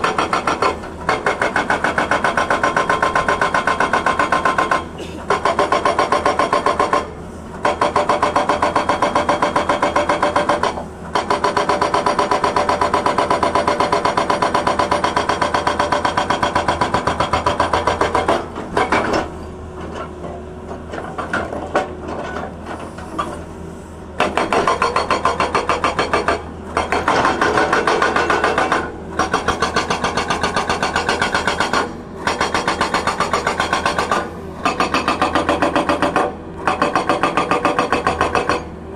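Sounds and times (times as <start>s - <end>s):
hydraulic rock breaker hammering rock: 0.0s - 23.5s, 24.2s - 38.9s.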